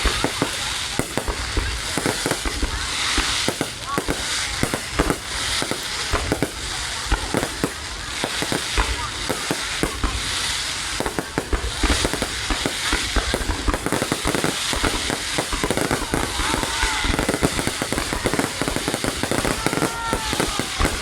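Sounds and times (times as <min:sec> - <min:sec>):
fireworks bangs and crackles: 0:00.0 - 0:21.0
fireworks sizzling hiss: 0:00.0 - 0:21.0.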